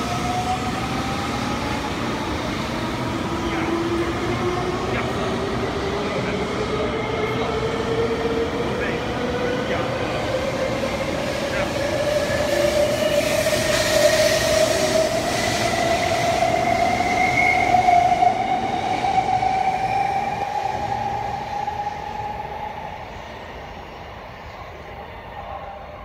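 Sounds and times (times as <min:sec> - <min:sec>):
rush of passing train cars: 0:00.0 - 0:26.0.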